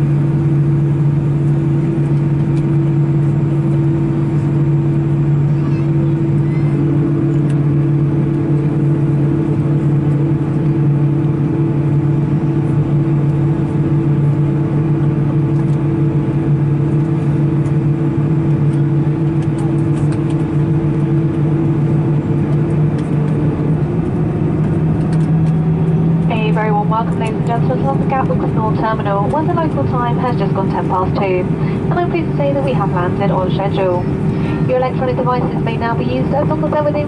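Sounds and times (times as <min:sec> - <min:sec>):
airplane cabin engine drone: 0:00.0 - 0:37.0.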